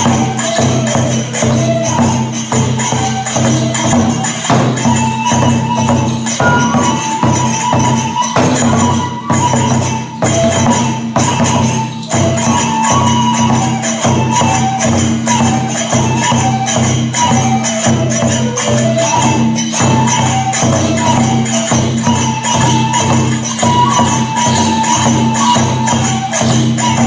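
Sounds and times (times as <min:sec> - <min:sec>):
bamboo flute melody: 0:00.0 - 0:27.0
hand cymbals clashing: 0:00.0 - 0:27.0
taiko drum beating: 0:00.0 - 0:27.0.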